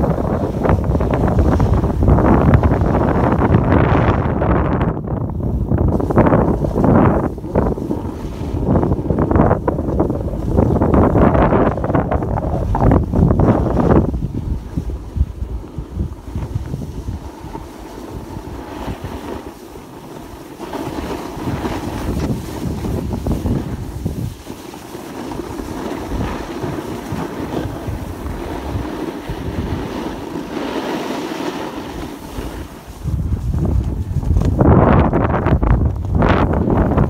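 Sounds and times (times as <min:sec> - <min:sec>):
snowboard scraping across snow: 0:00.0 - 0:37.0
wind buffeting microphone: 0:00.0 - 0:37.0.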